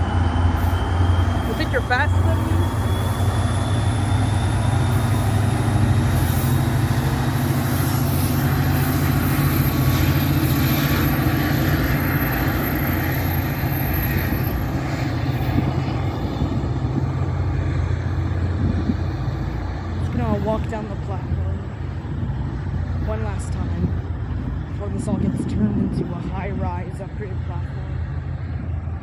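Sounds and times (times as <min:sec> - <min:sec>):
heavy vehicle rumbling: 0:00.0 - 0:29.0.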